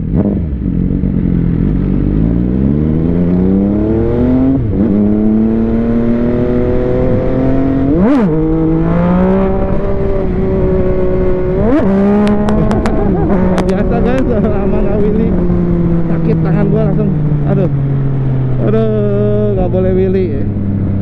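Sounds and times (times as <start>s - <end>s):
motorcycle engine accelerating hard: 0.0s - 21.0s.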